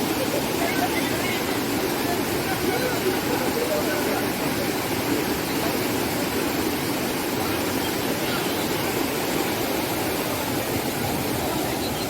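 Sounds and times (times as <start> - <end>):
water rushing over waterfall: 0.0 - 12.0.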